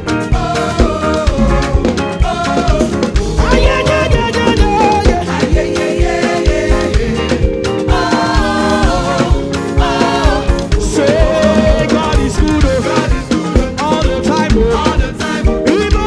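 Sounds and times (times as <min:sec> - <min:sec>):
drum-kit beat: 0:00.0 - 0:16.0
gospel band music: 0:00.0 - 0:16.0
person singing: 0:00.3 - 0:16.0.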